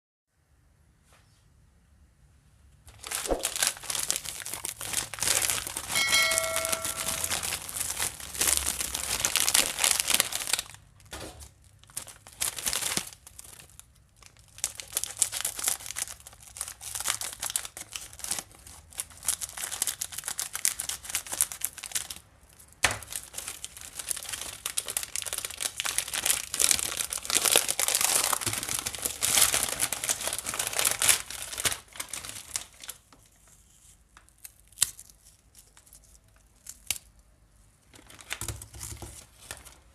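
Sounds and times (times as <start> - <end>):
wrapper crinkling and tearing: 2.9 - 37.2, 37.8 - 39.9.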